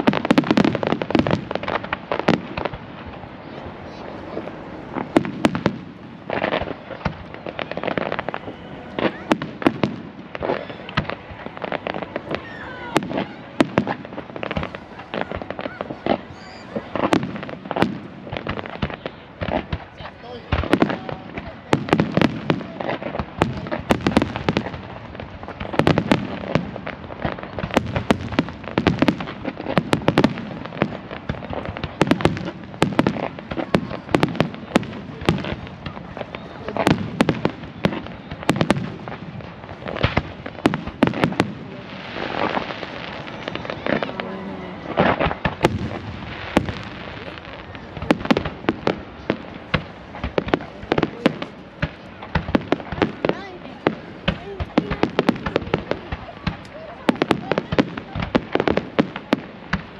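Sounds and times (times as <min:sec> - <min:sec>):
fireworks bangs and crackles: 0:00.0 - 0:59.9
fireworks hissing: 0:00.0 - 0:59.9.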